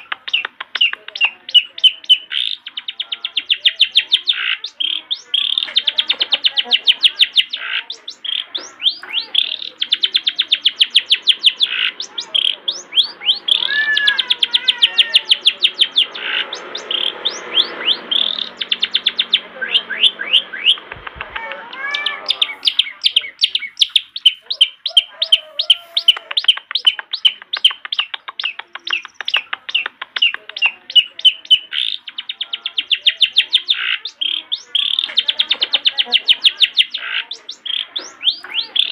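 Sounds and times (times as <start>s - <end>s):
bird singing fast chatter: 0.0s - 38.9s.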